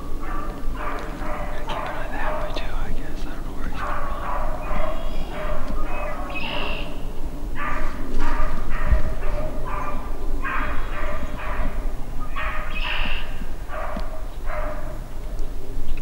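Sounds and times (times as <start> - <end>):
beagles baying: 0.0 - 15.7.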